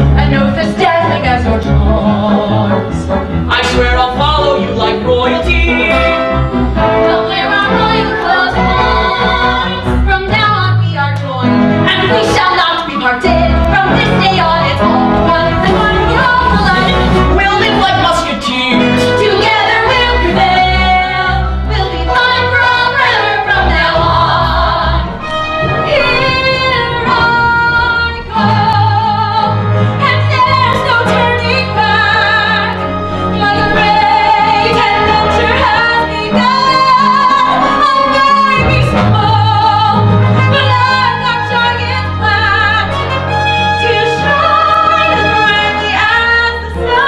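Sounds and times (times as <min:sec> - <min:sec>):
instrumental accompaniment: 0:00.0 - 0:47.0
woman singing with vibrato: 0:07.1 - 0:47.0.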